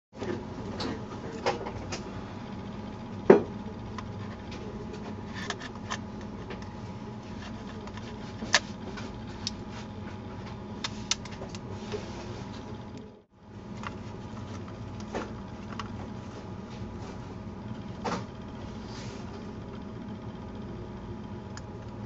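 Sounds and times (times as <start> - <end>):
steady low hum: 0.2 - 22.0.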